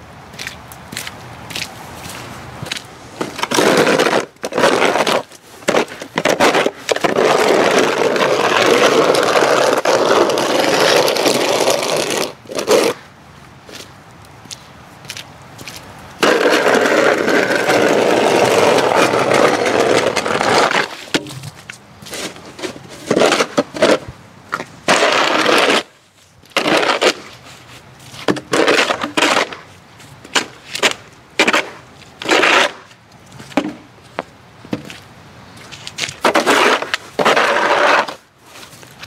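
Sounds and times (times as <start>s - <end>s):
snow shovel scraping pavement: 1.7s - 13.1s, 15.6s - 33.8s, 35.5s - 39.0s.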